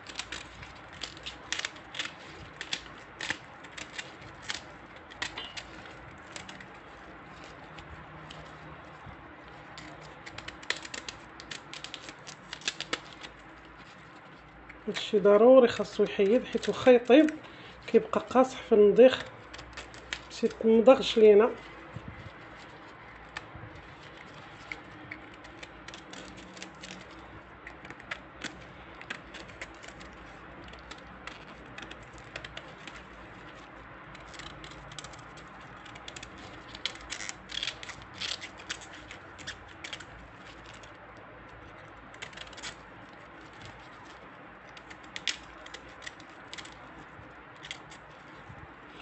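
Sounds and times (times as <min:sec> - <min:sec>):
artichoke leaves snapping: 0:00.0 - 0:49.0.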